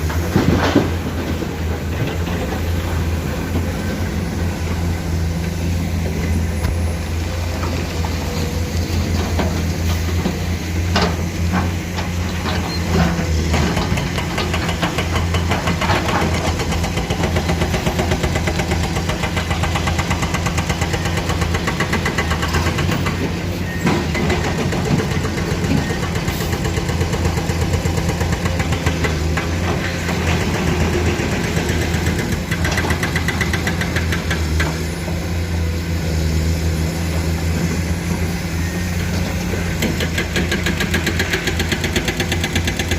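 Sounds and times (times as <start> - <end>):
excavator diesel engines running: 0.0 - 42.9.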